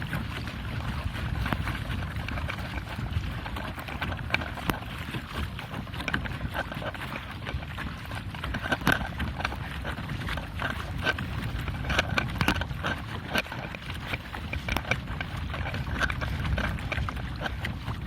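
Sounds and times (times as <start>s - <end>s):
water splashing against hull: 0.0s - 18.0s
wind rumble on microphone: 0.0s - 18.0s.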